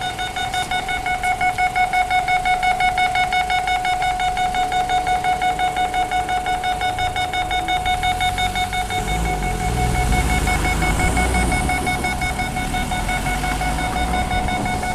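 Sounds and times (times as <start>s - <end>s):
level-crossing alarm pulsing: 0.0s - 14.9s.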